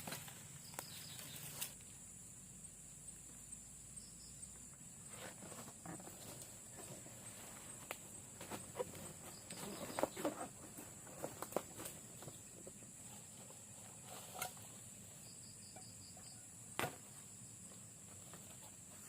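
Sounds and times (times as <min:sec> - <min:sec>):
insects droning buzz: 0:00.0 - 0:19.0.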